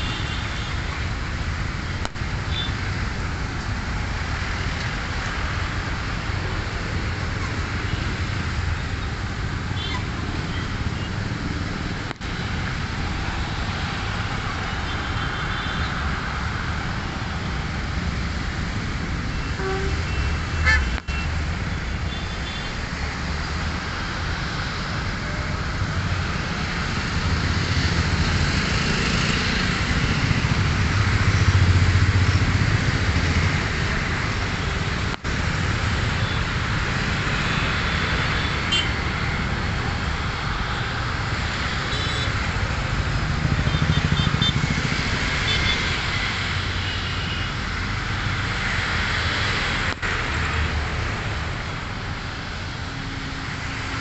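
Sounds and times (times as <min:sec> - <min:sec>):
road traffic: 0:00.0 - 0:54.0.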